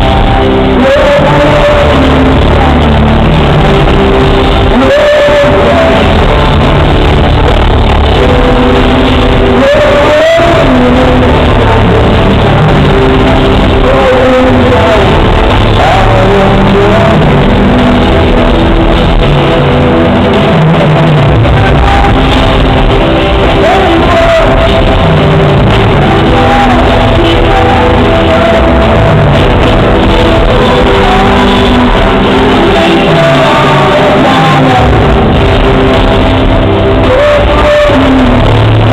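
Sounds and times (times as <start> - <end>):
live rock band playing: 0.0 - 38.9
person singing: 0.0 - 38.9.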